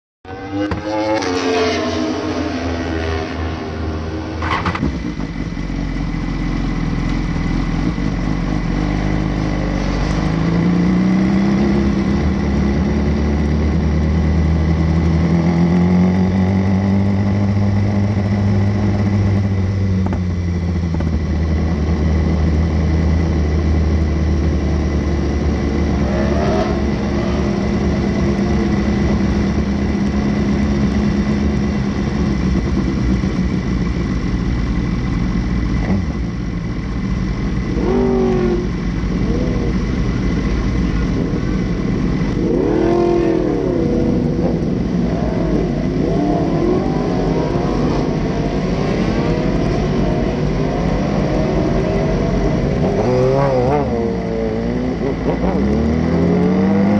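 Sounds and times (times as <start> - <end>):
motorcycle engine revving: 0.3 - 56.9.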